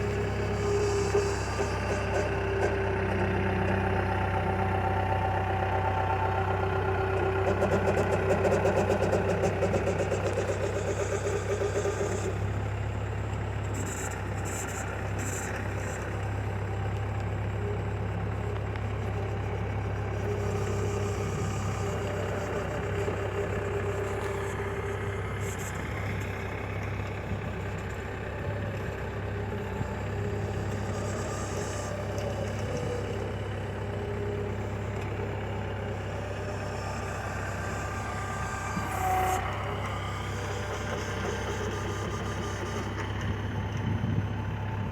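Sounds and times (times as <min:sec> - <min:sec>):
diesel engine running at low speed: 0:00.0 - 0:44.9.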